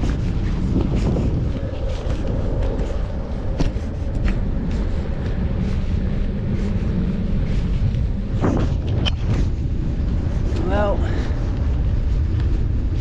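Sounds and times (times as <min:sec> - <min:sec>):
tyre and road noise: 0:00.0 - 0:13.0
wind rumble on microphone: 0:00.0 - 0:13.0.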